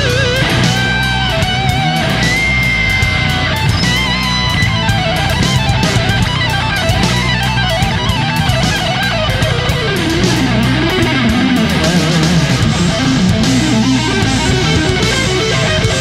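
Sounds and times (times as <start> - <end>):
electric guitar rock music: 0.0 - 16.0.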